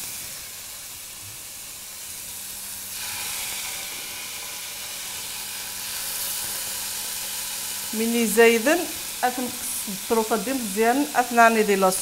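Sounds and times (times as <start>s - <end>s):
chicken sizzling on a griddle: 0.0s - 12.0s.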